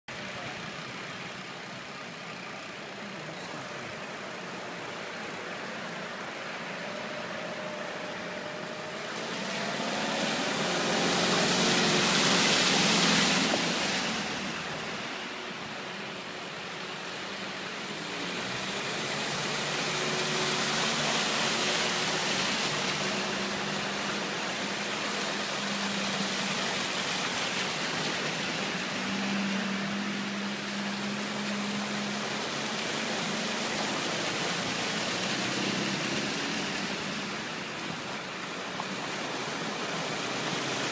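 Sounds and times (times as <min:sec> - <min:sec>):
low engine hum: 0:00.1 - 0:40.9
tyres swishing through water: 0:00.1 - 0:40.9.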